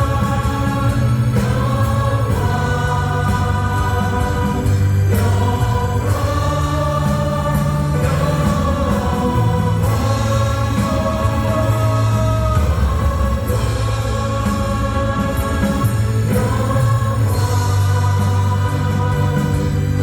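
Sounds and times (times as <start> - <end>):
acoustic guitar: 0.0 - 20.0
bass line: 0.0 - 20.0
drums: 0.0 - 20.0
group singing in unison: 0.0 - 20.0
keyboard: 0.0 - 20.0.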